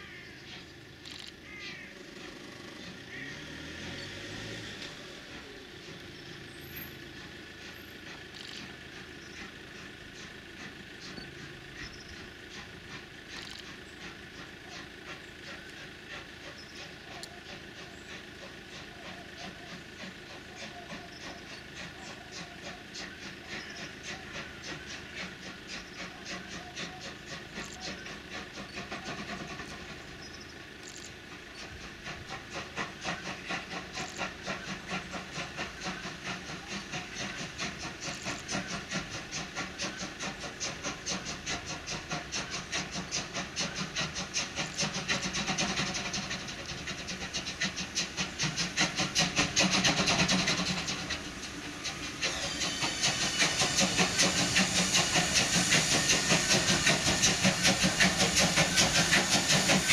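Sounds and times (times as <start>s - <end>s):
steam locomotive exhaust beats: 0.0s - 59.9s
steam hissing: 2.0s - 59.9s.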